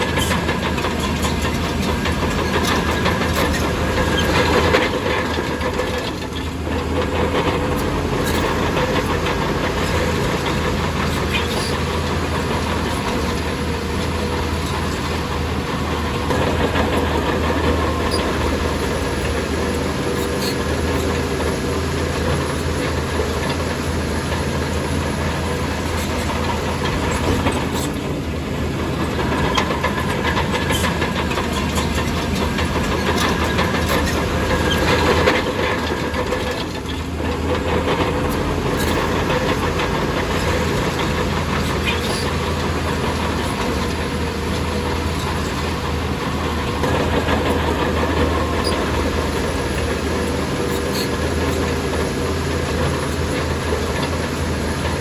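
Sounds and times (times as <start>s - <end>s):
bulldozer diesel engine running: 0.0s - 55.0s
steel tracks clanking: 0.0s - 55.0s.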